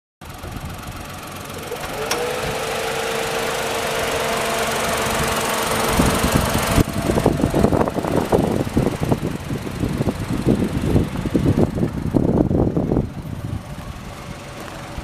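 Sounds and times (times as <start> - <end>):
small car engine running: 0.2 - 15.0
steady whine: 0.6 - 15.0.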